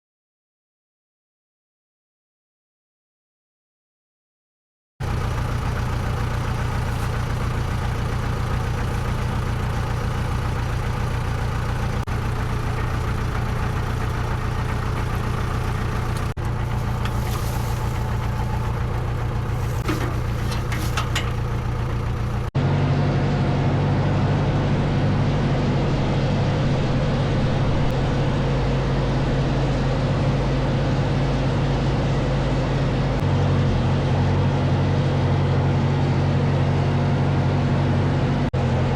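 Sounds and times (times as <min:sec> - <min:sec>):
tractor engine running: 0:05.0 - 0:38.9.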